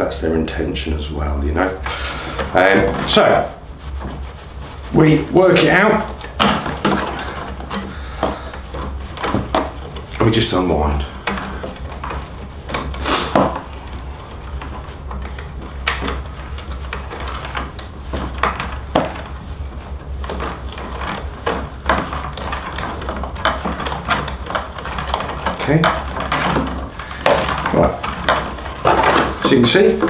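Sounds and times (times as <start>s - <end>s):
hide lacing scraping and rustling: 1.0s - 30.0s.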